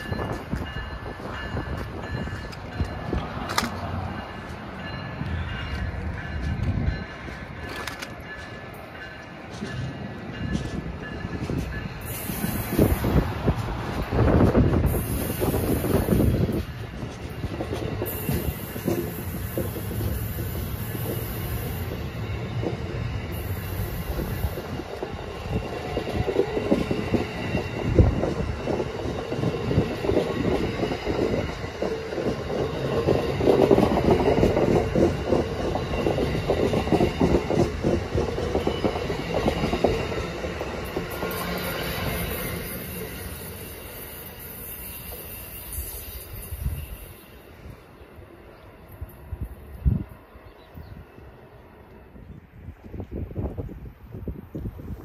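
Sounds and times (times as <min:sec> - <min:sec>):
rapid train wheel clatter: 0:00.0 - 0:47.0
passenger train rolling past: 0:00.0 - 0:55.0.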